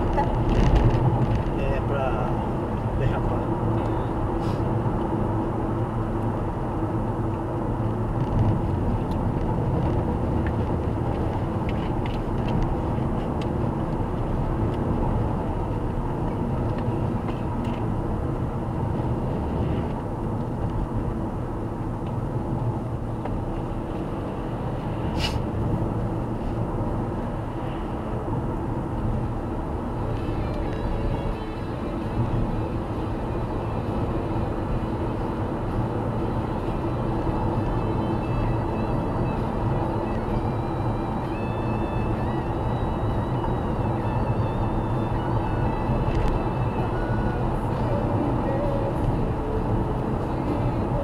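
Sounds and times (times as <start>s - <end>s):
car road and tyre noise: 0.0s - 51.0s.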